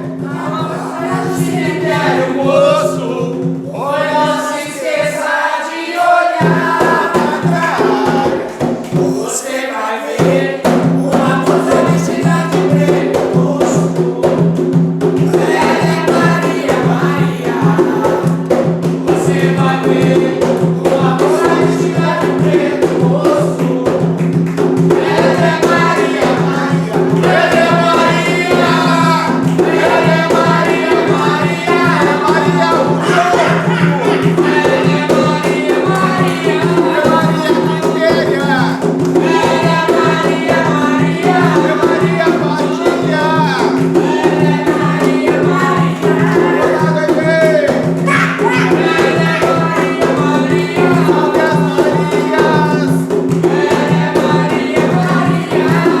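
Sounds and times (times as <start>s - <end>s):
group singing a chant: 0.0s - 56.0s
steady percussion: 0.0s - 56.0s.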